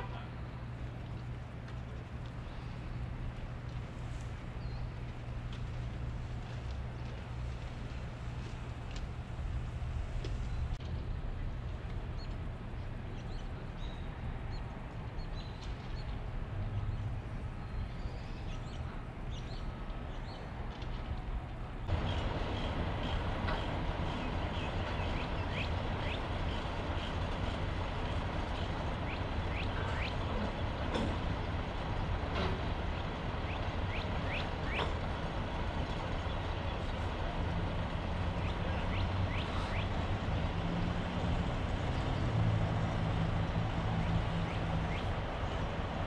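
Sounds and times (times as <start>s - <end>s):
diesel engines rumbling: 0.0s - 46.0s.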